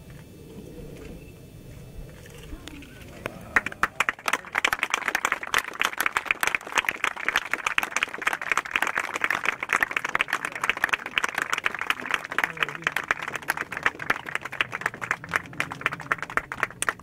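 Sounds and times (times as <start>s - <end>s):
group of people applauding: 3.2s - 17.0s.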